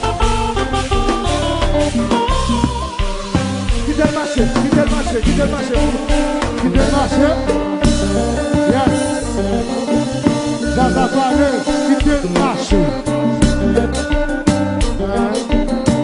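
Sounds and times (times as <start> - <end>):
repeating bass line: 0.0 - 15.9
live band playing: 0.0 - 16.0
lead singer singing: 2.6 - 16.0.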